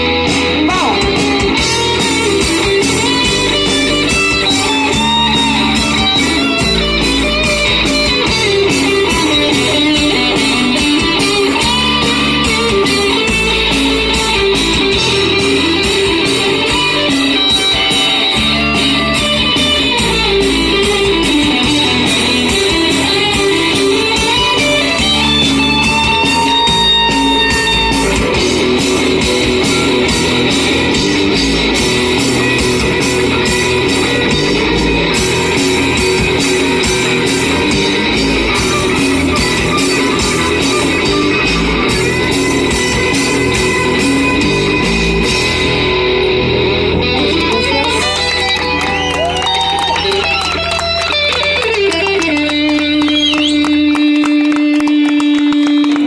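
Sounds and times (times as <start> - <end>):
steady drum beat: 0.0 - 49.1
bass guitar: 0.0 - 56.0
electric guitars: 0.0 - 56.0
sliding lead guitar line: 0.0 - 56.0.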